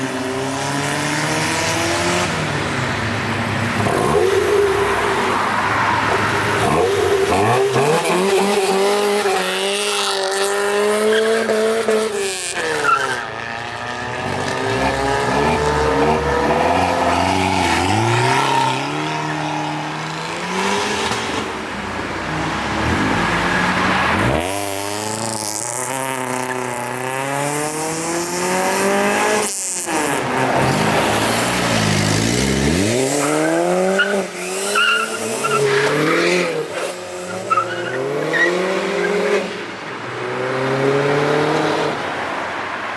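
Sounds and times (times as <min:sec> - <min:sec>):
car engines revving hard: 0:00.0 - 0:42.9.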